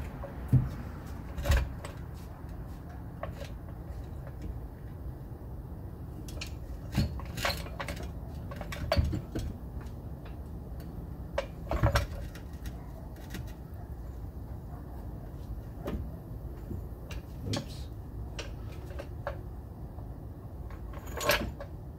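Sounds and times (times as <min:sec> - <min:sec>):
metal clinks and knocks: 0:00.0 - 0:05.0, 0:06.1 - 0:19.6, 0:20.5 - 0:21.9.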